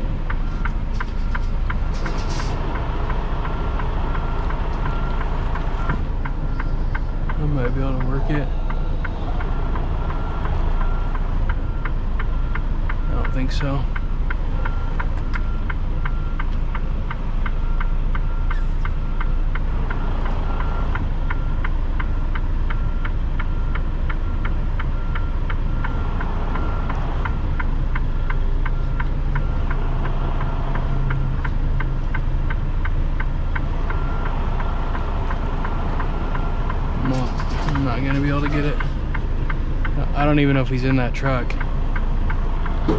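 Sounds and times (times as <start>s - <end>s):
regular ticking: 0.0s - 42.9s
truck diesel engine rumbling: 0.0s - 42.9s.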